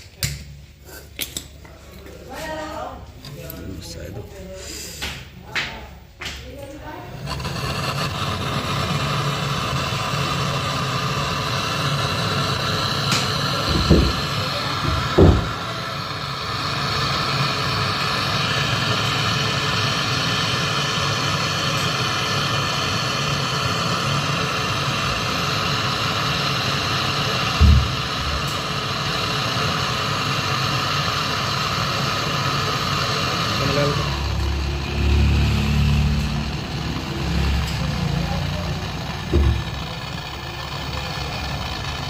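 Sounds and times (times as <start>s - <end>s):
mechanical hum: 0.0s - 42.0s.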